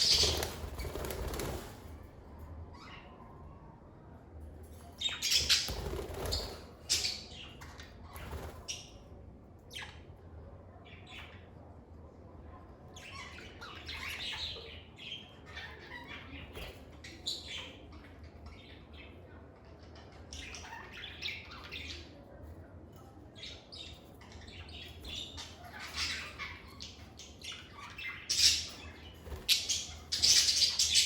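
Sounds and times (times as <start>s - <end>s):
lovebirds chirping and squawking: 0.0s - 1.8s, 2.7s - 3.5s, 4.7s - 10.1s, 12.9s - 22.4s, 23.0s - 31.0s.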